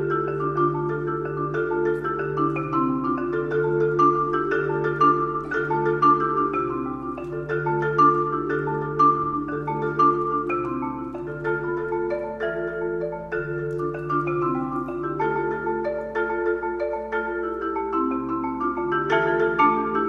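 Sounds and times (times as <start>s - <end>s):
solo marimba: 0.0s - 20.0s.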